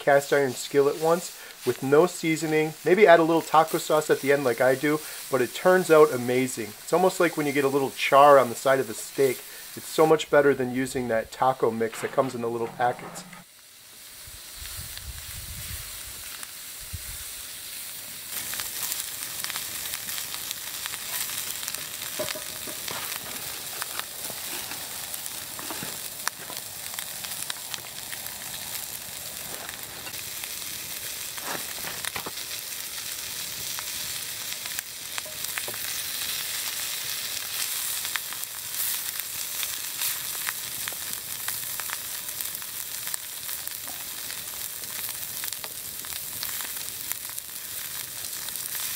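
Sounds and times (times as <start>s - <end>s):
meat sizzling in a skillet: 0.0s - 11.7s, 12.8s - 48.9s.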